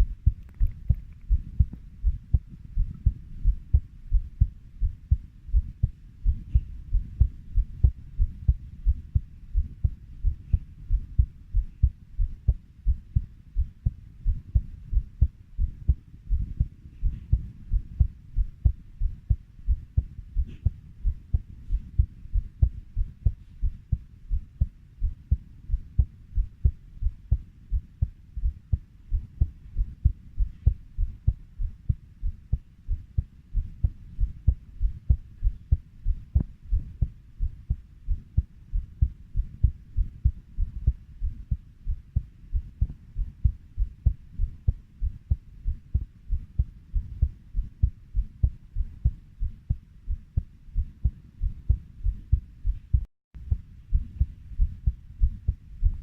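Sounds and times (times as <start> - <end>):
heartbeat thumping: 0.0 - 56.0.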